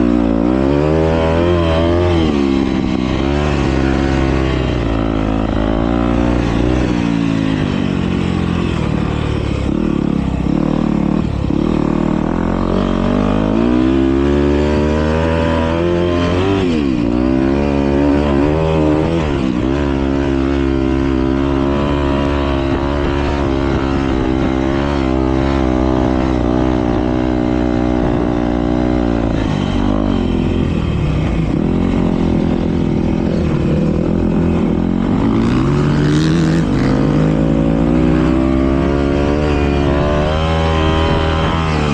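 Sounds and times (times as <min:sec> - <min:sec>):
motocross bikes revving: 0:00.0 - 0:41.9.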